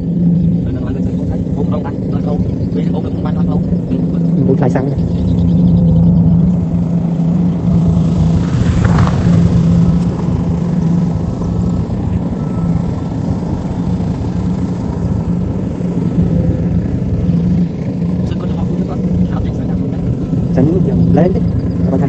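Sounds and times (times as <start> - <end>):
combine harvester engine drone: 0.0 - 22.0.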